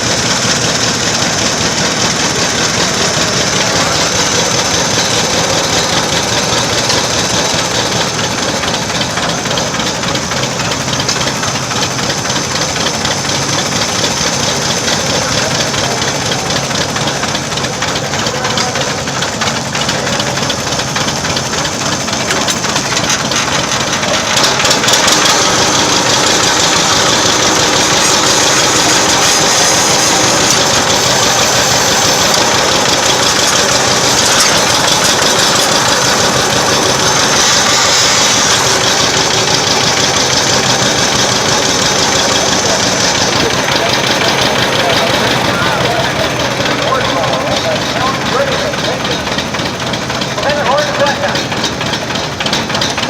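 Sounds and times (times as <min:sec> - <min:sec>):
tractor engine chugging: 0:00.0 - 0:53.0.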